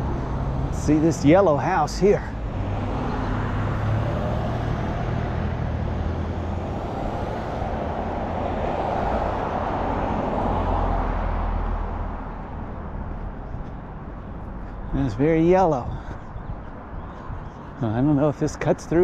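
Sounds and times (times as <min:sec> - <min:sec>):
traffic passing: 0:00.0 - 0:19.0.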